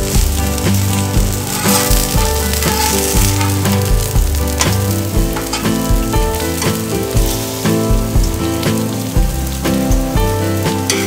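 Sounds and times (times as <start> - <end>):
background music with beat: 0.0 - 11.0
pancake sizzling in oil: 0.0 - 11.0.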